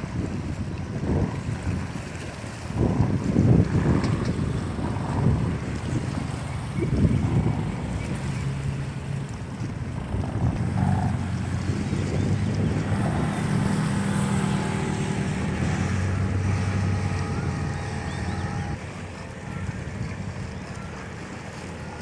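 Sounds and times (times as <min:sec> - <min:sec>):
low engine drone: 0:00.0 - 0:22.0
wind buffeting microphone: 0:00.0 - 0:22.0.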